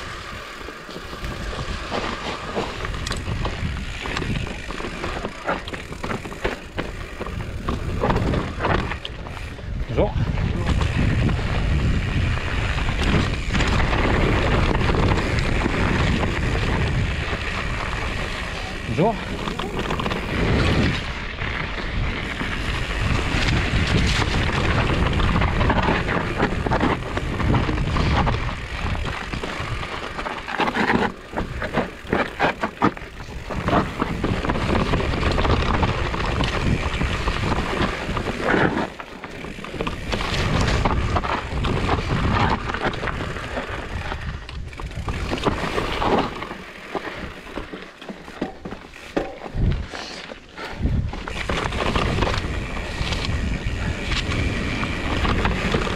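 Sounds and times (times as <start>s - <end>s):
wind buffeting microphone: 0.0s - 30.2s, 31.3s - 46.3s, 50.6s - 55.9s
bike rattling: 0.0s - 55.9s
bike tyre noise: 0.0s - 55.9s.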